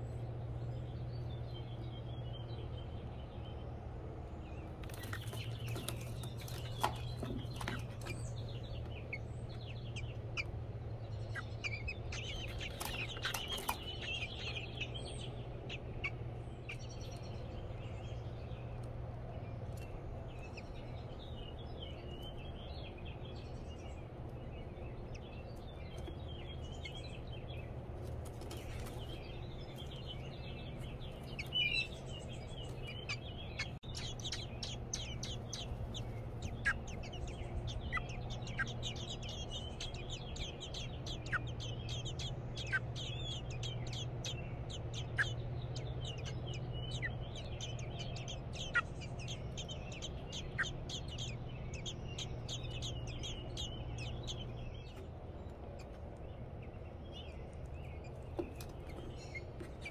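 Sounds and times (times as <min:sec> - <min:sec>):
nestlings peeping: 0:00.0 - 0:59.9
steady low hum: 0:00.0 - 0:59.9.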